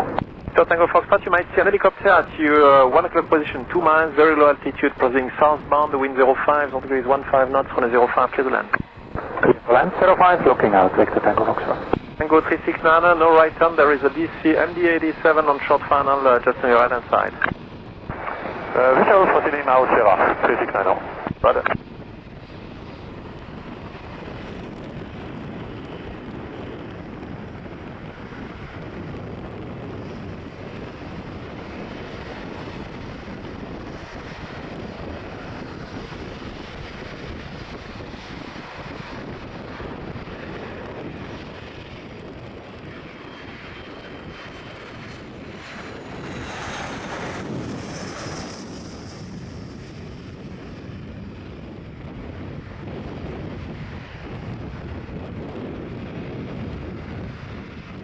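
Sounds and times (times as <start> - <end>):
jet engine rumble: 0.0 - 58.0.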